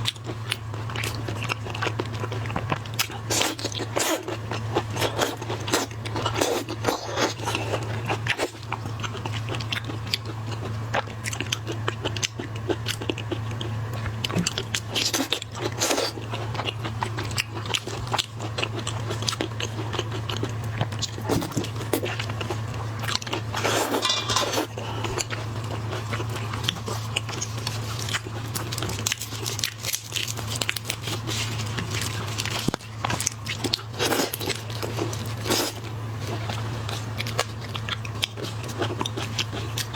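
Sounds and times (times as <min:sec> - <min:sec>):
crunching and wet chewing: 0:00.0 - 0:39.9.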